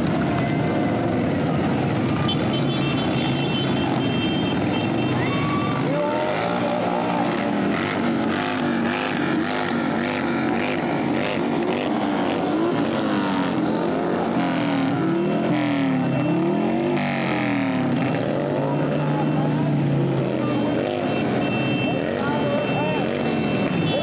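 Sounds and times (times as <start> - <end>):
motorcycle engines riding past: 0.0 - 24.0.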